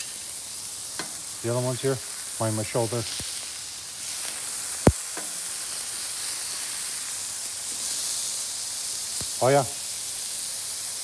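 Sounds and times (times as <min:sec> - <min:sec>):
burger patties sizzling on griddle: 0:00.0 - 0:11.0.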